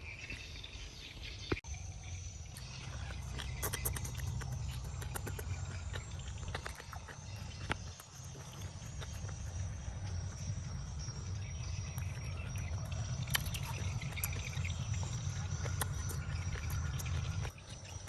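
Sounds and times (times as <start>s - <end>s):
high insect trill: 1.7s - 18.0s
low rumble: 2.1s - 17.5s.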